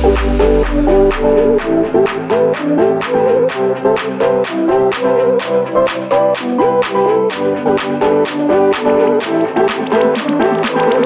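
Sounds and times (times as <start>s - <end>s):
electronic music with synth melody: 0.0s - 11.0s.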